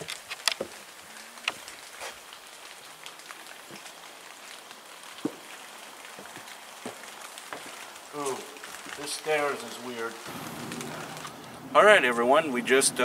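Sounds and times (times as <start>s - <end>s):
footsteps on a trail: 0.0s - 11.7s
steady hiss: 0.0s - 13.0s.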